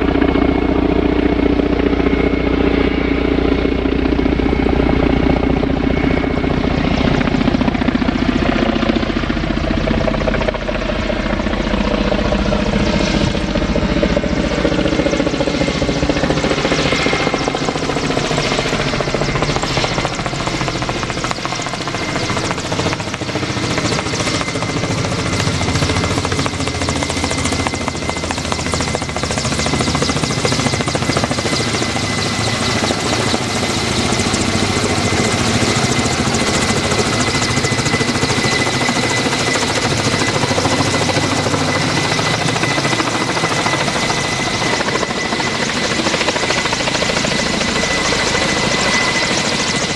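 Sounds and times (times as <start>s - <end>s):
helicopter engines running: 0.0s - 49.9s
high turbine whine: 0.0s - 49.9s.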